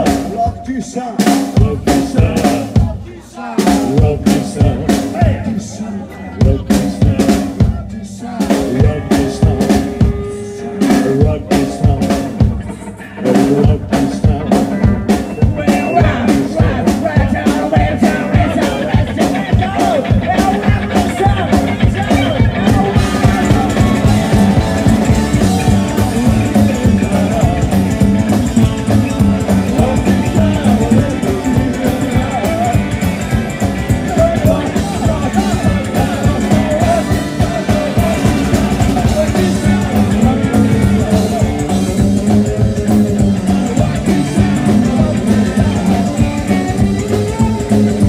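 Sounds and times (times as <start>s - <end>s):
drum beat: 0.0s - 5.7s, 6.4s - 48.0s
voices singing together: 0.0s - 48.0s
electric guitars: 1.2s - 48.0s.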